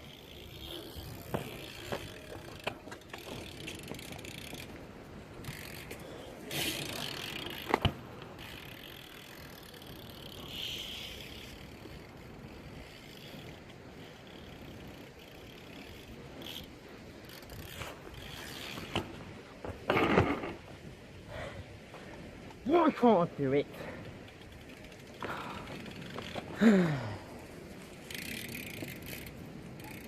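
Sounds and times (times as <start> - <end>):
bike tyres rolling: 0.0 - 30.0.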